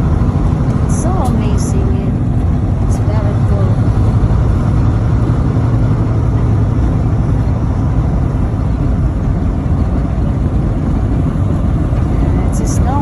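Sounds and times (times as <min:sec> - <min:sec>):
road noise: 0:00.0 - 0:13.0
truck engine drone: 0:00.0 - 0:13.0.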